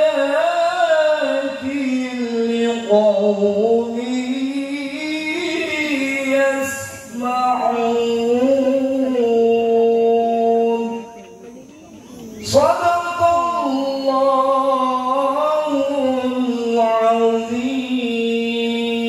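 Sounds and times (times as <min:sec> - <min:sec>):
man chanting into a microphone: 0:00.0 - 0:11.2, 0:12.4 - 0:19.0.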